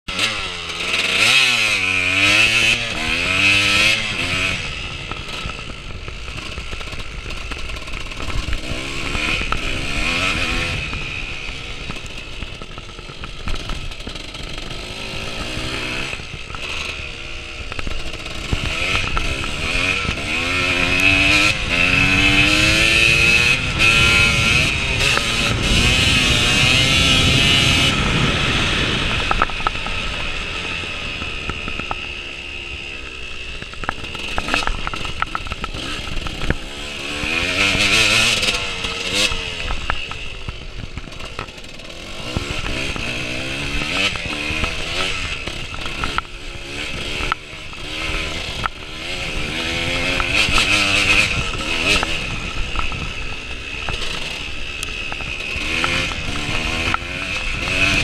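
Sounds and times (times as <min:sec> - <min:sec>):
dirt bike engine revving: 0:00.1 - 0:58.0.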